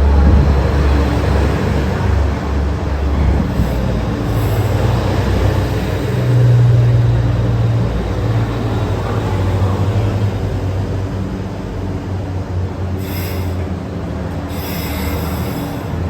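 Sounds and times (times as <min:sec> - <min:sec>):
train low drone: 0:00.0 - 0:16.0.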